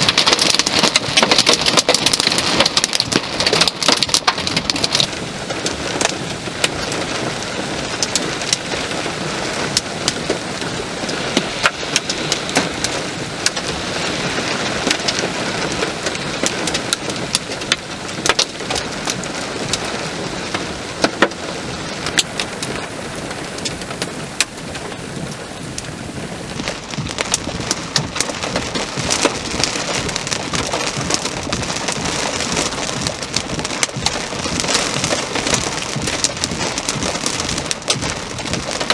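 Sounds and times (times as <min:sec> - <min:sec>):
heavy rain pouring: 0:00.0 - 0:38.9
raindrops striking a surface: 0:00.0 - 0:38.9.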